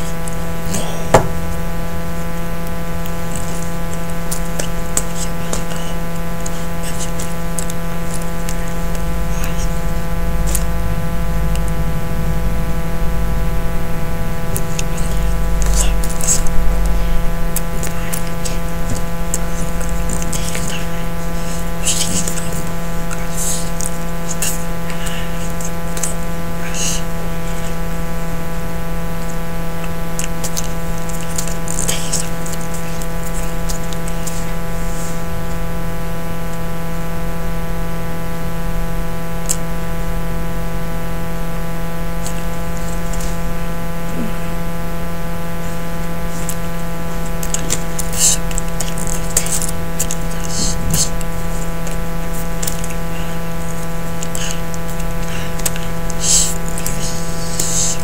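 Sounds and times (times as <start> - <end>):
electrical buzzing hum: 0.0 - 58.0.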